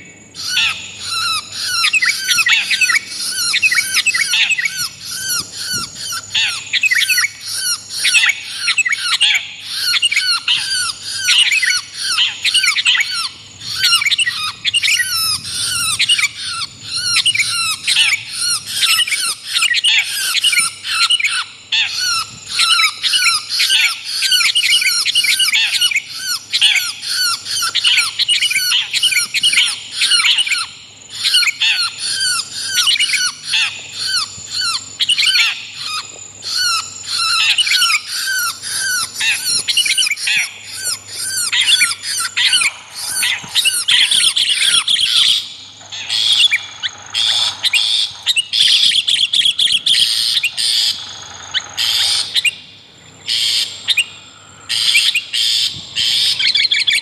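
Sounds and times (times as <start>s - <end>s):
harsh chattering bird calls: 0.0s - 52.6s.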